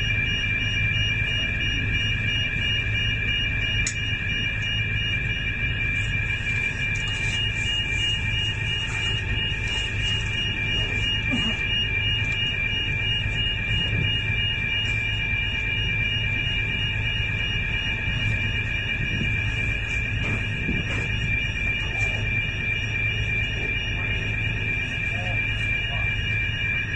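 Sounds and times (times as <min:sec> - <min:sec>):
high-pitched alarm tone: 0:00.0 - 0:26.9
low rumble of ship: 0:00.0 - 0:26.9.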